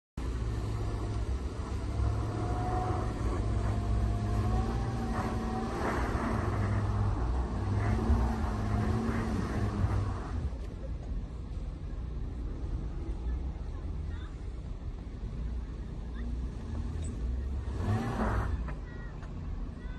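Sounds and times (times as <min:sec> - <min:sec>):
car engine rumbling: 0:00.2 - 0:19.9.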